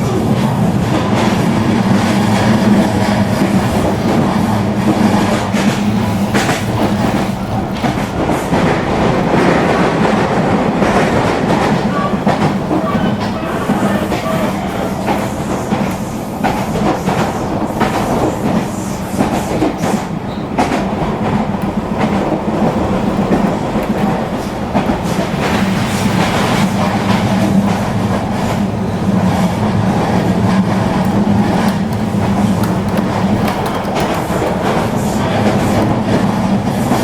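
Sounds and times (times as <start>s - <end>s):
wheels clicking over track: 0.0s - 37.0s.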